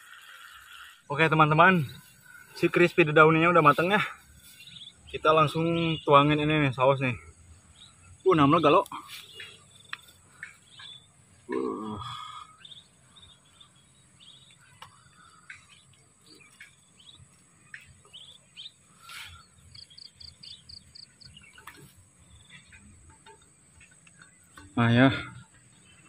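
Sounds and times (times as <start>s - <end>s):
birds chirping: 0.0s - 26.0s
rapid bird trill: 0.0s - 26.0s.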